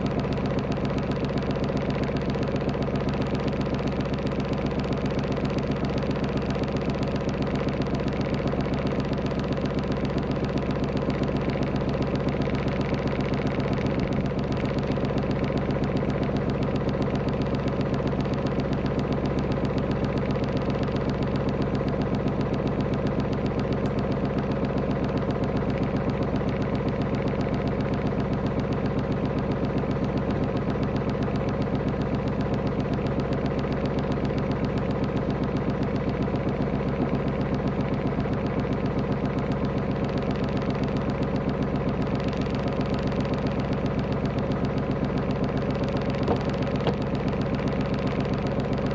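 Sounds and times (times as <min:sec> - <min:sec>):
boat engine running steadily: 0:00.0 - 0:48.9.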